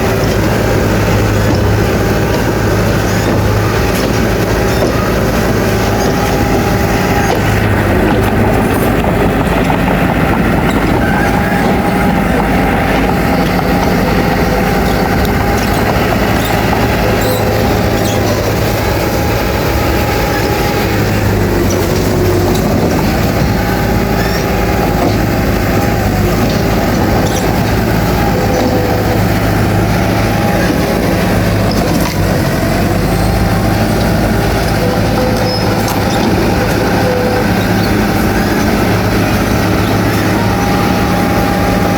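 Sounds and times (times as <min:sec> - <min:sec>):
bulldozer diesel engine under load: 0:00.0 - 0:41.9.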